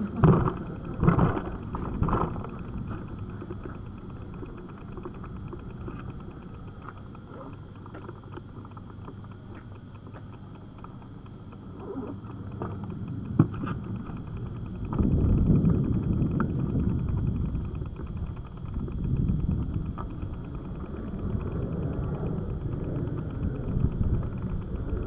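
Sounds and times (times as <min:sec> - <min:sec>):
bicycle tyres rumbling on asphalt: 0:00.0 - 0:25.0
wind: 0:00.0 - 0:25.0.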